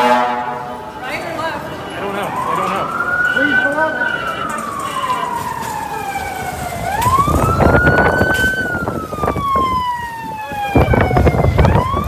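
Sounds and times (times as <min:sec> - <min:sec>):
police siren wailing: 0:00.0 - 0:12.0
wind buffeting microphone: 0:00.9 - 0:12.0.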